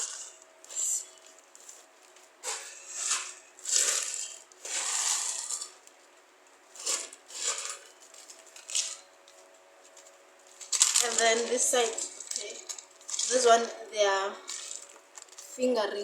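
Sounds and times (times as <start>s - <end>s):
plastic packaging crinkling: 0.0s - 6.1s, 6.7s - 15.6s.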